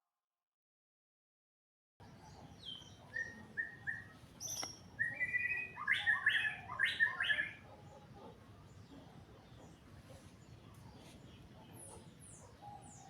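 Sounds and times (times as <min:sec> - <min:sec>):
small birds chirping: 0:02.0 - 0:13.0.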